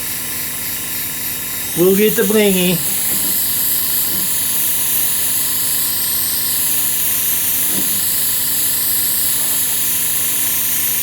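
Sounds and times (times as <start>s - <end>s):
paint spray gun hissing: 0.0s - 10.0s.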